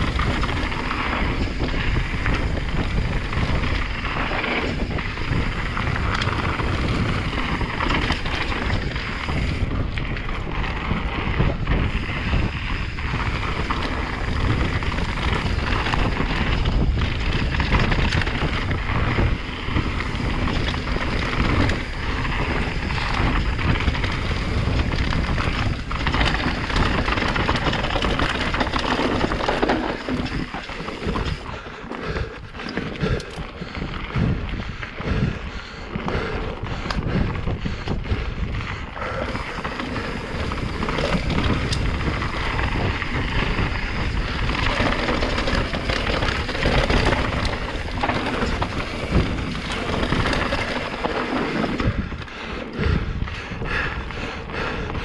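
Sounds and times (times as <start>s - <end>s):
chain and suspension rattling: 0.0s - 34.7s, 36.0s - 53.8s
tyres rumbling on dirt and rock: 0.0s - 55.0s
wind buffeting microphone: 0.0s - 55.0s.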